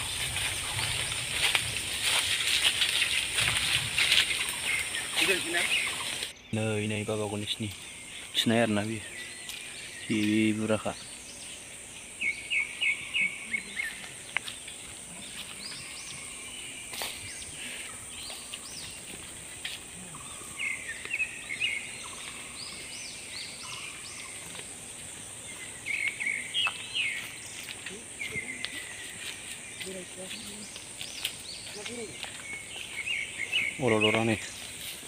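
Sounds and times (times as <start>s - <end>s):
birds chirping: 0.0s - 35.0s
high insect hum: 0.0s - 35.0s.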